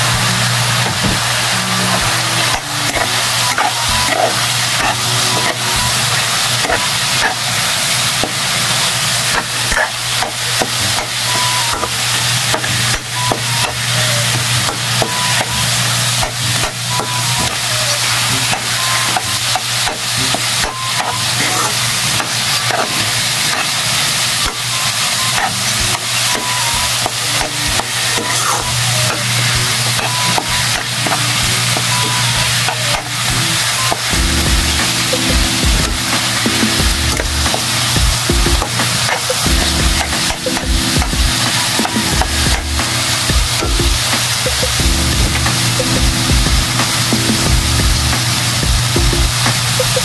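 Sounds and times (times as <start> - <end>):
meat and vegetables sizzling in a wok: 0.0 - 50.0.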